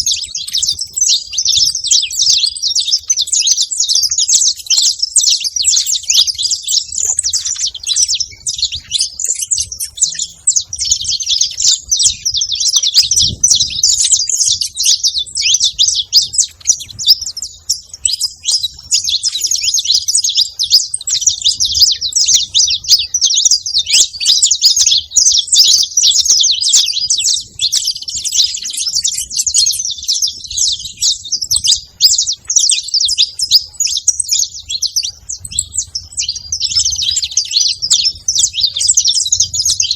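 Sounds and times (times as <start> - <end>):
finch singing rapid trills: 0.0 - 39.9.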